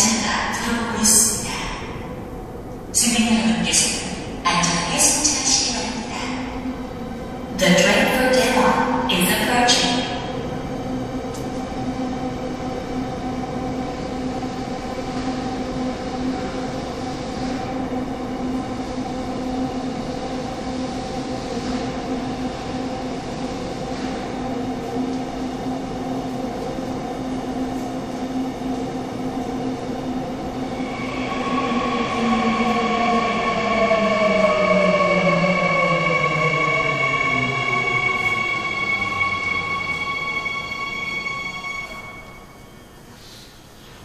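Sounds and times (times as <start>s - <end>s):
train inverter whine: 0.0s - 44.0s.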